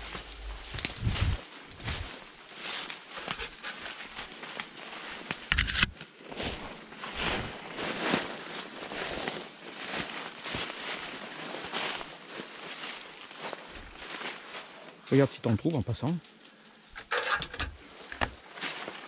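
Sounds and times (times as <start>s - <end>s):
footsteps rustling through undergrowth: 0.0s - 17.0s, 17.7s - 19.0s.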